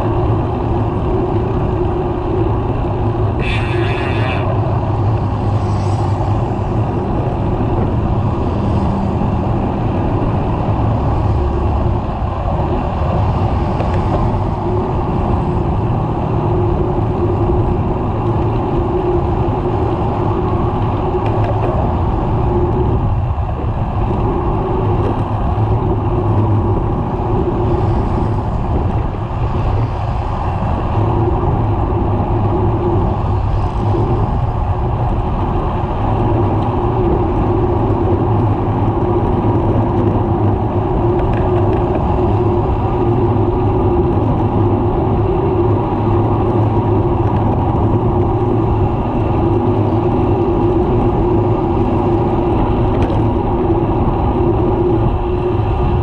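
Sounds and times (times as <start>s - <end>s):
motor traffic passing: 0.0s - 56.0s
road noise: 0.0s - 56.0s
wind rush: 0.0s - 56.0s.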